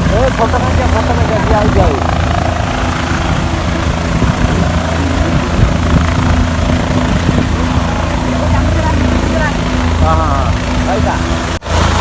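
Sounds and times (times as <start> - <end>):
constant low hum: 0.0 - 12.0
helicopter rotor and engine noise: 0.0 - 12.0.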